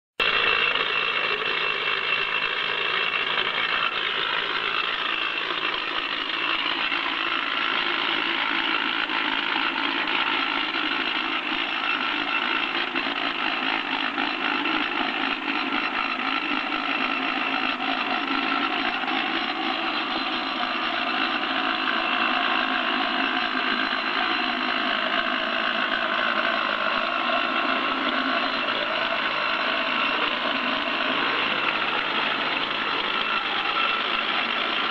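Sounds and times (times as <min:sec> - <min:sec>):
rock drill running: 0:00.2 - 0:34.9.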